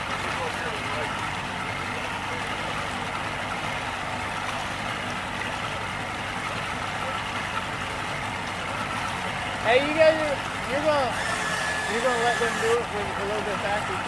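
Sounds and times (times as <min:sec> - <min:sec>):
motorboat engine running: 0:00.0 - 0:14.0
water rushing along hull: 0:00.0 - 0:14.0.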